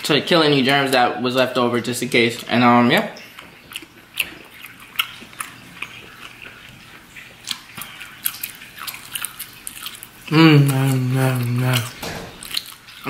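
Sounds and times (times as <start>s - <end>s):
person chewing: 2.3s - 13.0s.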